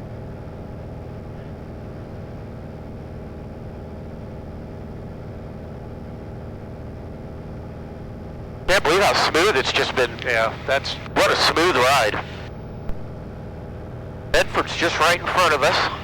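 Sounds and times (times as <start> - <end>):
light airplane engine droning: 0.0 - 16.0.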